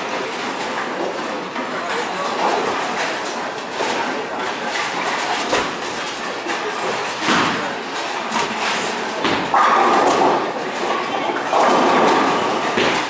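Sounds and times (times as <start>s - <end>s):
bowling balls rolling: 0.0s - 13.0s.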